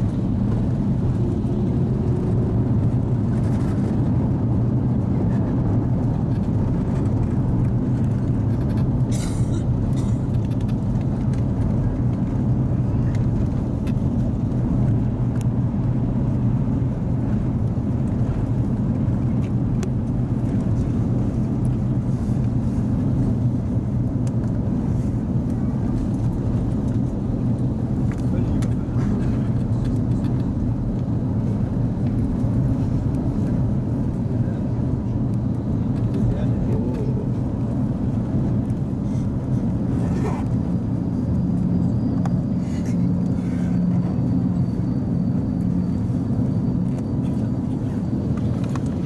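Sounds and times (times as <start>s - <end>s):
aircraft cabin rumble: 0.0s - 49.0s.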